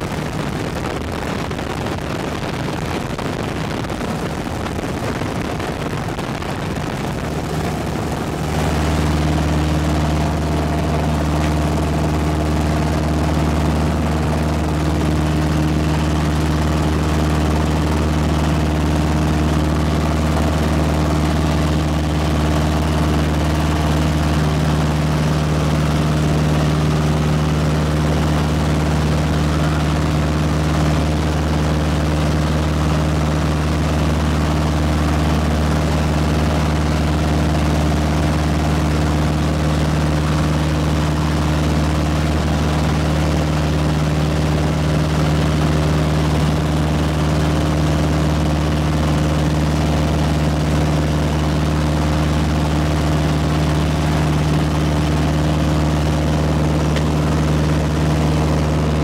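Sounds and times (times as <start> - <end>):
aircraft engine and propeller: 0.0 - 59.0.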